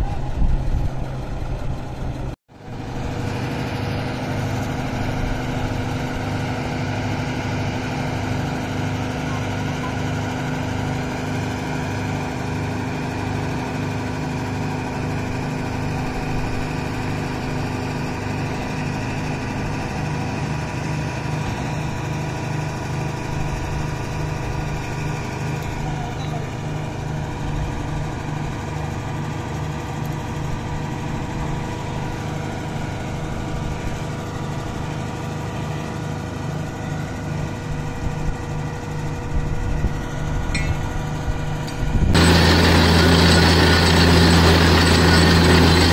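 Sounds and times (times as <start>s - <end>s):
drilling rig engine running: 0.0s - 45.9s.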